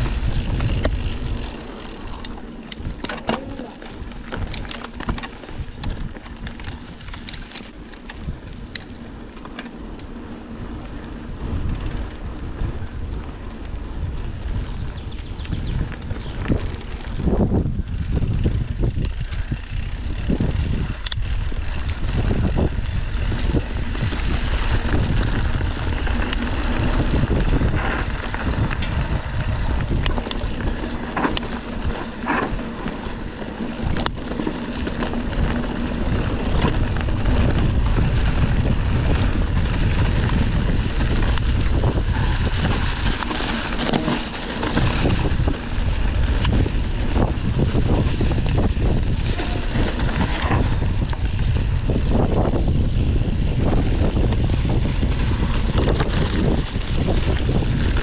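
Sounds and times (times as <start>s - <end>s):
wind buffeting microphone: 0.0s - 9.4s, 10.1s - 58.0s
bicycle rattling and knocking: 0.0s - 58.0s.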